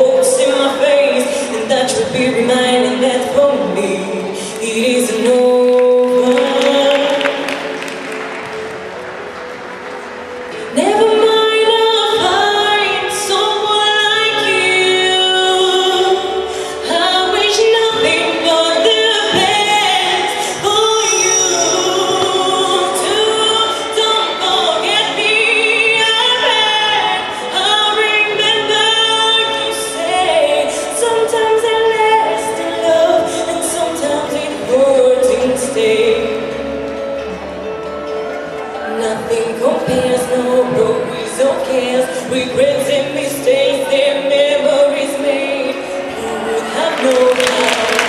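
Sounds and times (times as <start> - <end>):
woman singing with accompaniment: 0.0 - 8.6, 10.5 - 48.0.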